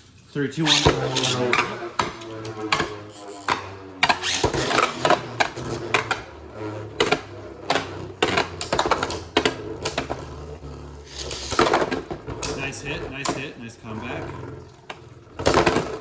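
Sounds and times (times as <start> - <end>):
spinning tops whirring: 0.0 - 16.0.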